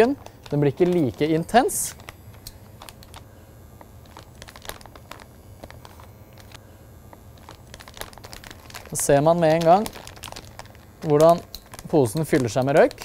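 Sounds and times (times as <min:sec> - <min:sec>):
plastic bag crinkling: 0:00.0 - 0:03.2, 0:04.0 - 0:06.6, 0:07.3 - 0:13.0.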